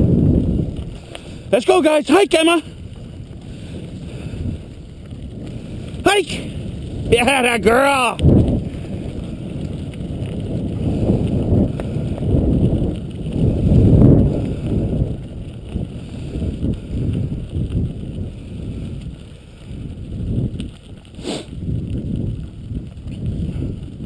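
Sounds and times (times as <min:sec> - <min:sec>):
rig rolling over gravel: 0:00.0 - 0:24.0
wind buffeting microphone: 0:00.0 - 0:24.0.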